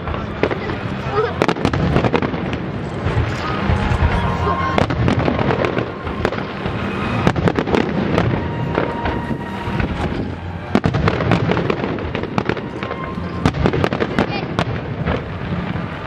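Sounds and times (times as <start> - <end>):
firework bangs and crackles: 0.0 - 16.0
fireworks booming: 0.0 - 16.0.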